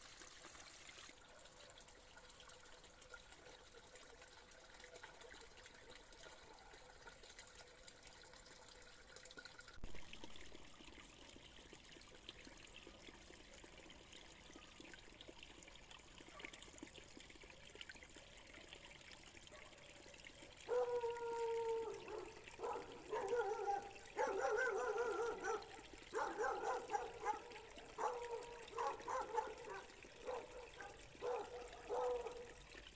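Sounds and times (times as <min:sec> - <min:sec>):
water trickling into a pond: 0:00.0 - 0:32.9.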